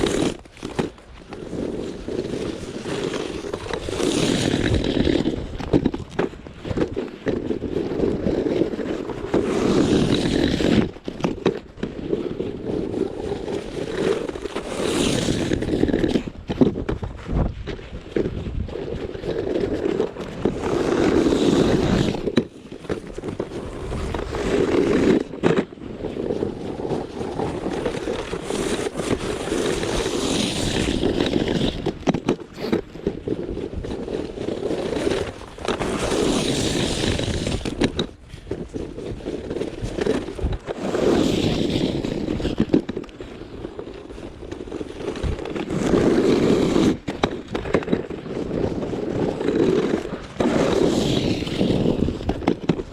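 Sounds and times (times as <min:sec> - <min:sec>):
snow scraped across pavement: 0:00.0 - 0:52.9.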